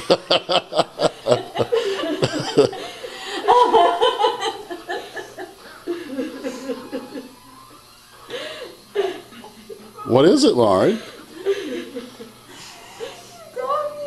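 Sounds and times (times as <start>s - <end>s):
girl laughing: 0.0s - 7.4s, 8.3s - 10.1s, 11.0s - 13.9s.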